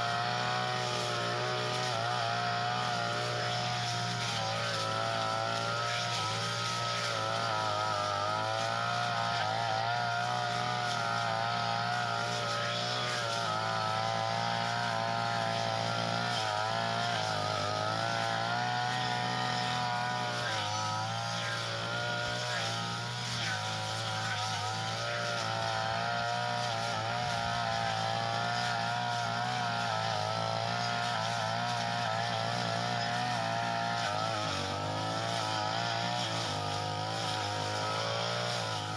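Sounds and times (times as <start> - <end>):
grass cutter engine running: 0.0 - 38.9.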